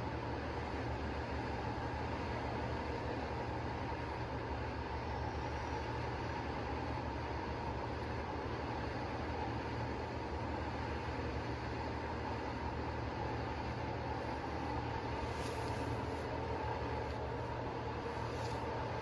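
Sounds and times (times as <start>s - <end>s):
boring machine low hum: 0.0s - 19.0s.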